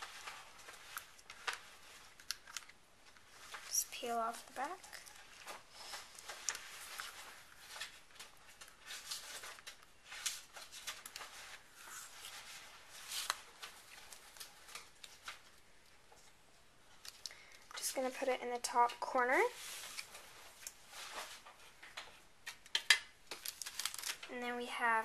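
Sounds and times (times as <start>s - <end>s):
paper rustling: 0.0s - 17.6s, 18.8s - 22.6s, 23.3s - 24.3s.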